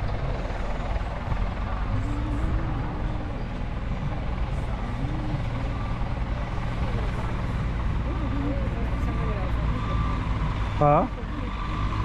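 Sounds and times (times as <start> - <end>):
heavy machine engine droning: 0.0 - 12.0.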